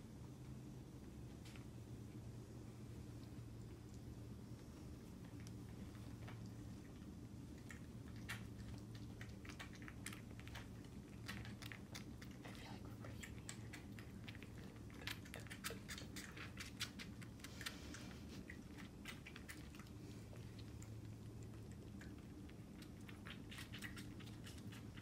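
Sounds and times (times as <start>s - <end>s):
kittens suckling wet clicks: 1.0s - 25.0s.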